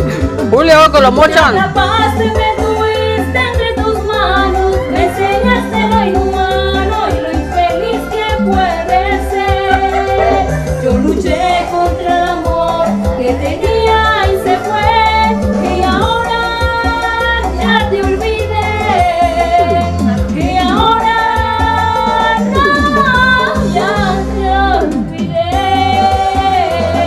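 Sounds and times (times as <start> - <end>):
latin backing track with bass: 0.0 - 27.0
woman singing: 1.5 - 27.0.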